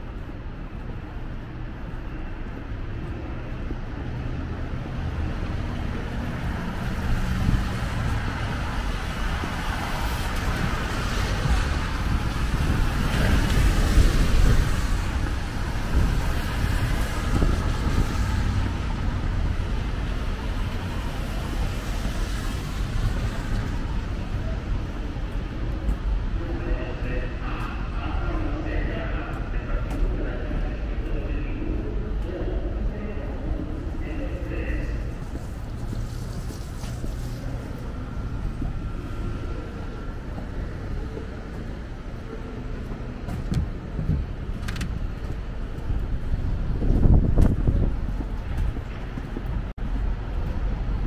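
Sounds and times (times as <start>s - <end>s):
traffic engines rumbling: 0.0s - 51.0s.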